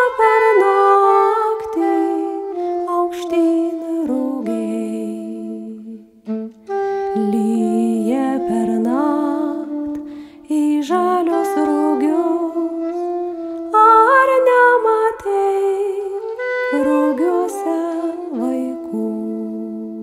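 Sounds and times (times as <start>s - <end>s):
soft instrumental accompaniment: 0.0s - 20.0s
woman humming a melody: 0.0s - 20.0s.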